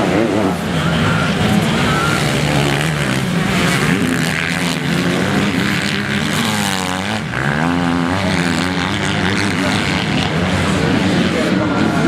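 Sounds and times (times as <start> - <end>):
motocross engines revving: 0.0 - 12.0
motorcycle passing: 0.0 - 12.0.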